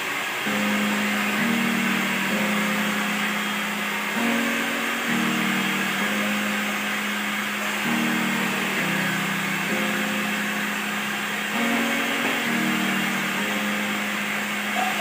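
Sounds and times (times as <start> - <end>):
hair dryer blowing: 0.0 - 15.0
low humming tones: 0.5 - 15.0.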